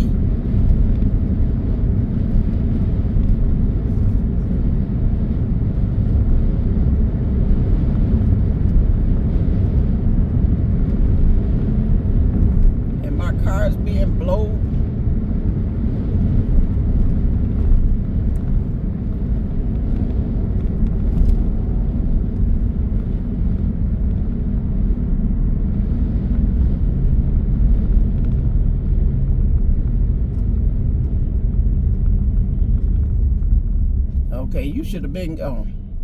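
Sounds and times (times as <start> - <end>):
car running noise: 0.0 - 36.0
wind buffeting a car: 0.0 - 36.0.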